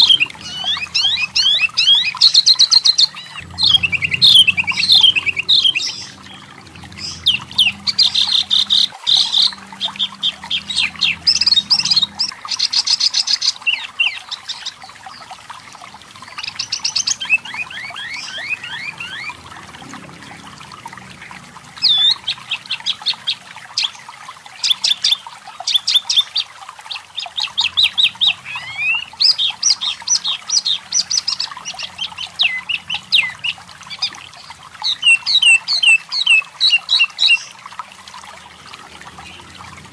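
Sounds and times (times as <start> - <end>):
bird chirping and trilling: 0.0 - 20.5, 21.8 - 24.0, 24.6 - 37.6.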